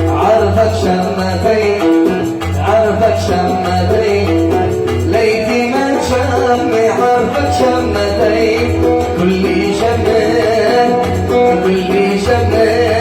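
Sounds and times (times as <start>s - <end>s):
oud playing: 0.0s - 13.0s
percussion strokes: 0.0s - 13.0s.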